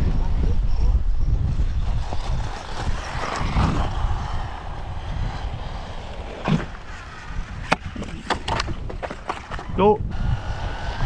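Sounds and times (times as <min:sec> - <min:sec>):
wind noise on microphone: 0:00.0 - 0:11.0
electric motor whining: 0:00.2 - 0:11.0.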